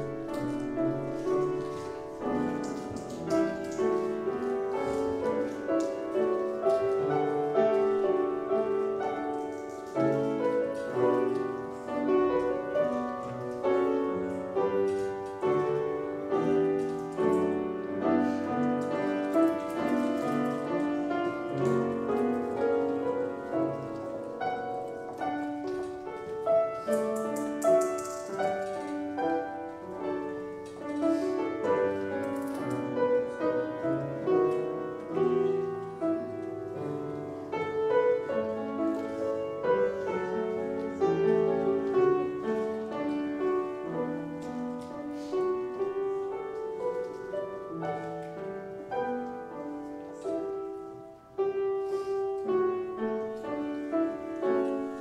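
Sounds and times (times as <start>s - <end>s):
piano playing chords: 0.0s - 55.0s.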